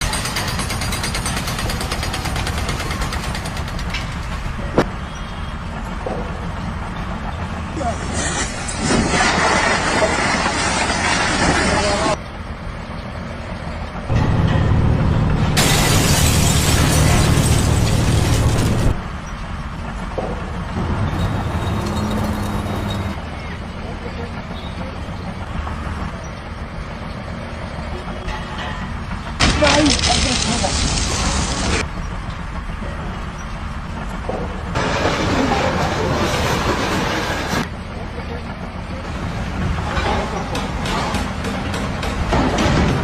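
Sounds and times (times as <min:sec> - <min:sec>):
machine engine rattling: 0:00.0 - 0:04.8, 0:05.6 - 0:43.0.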